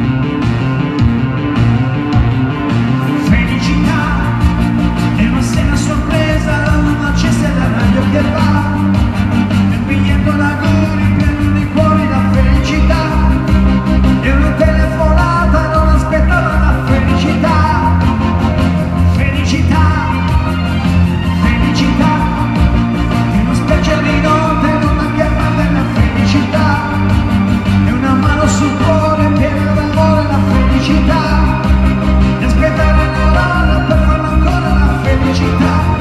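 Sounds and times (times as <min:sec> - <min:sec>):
amplified backing music: 0:00.0 - 0:36.0
man singing into a microphone: 0:03.0 - 0:36.0.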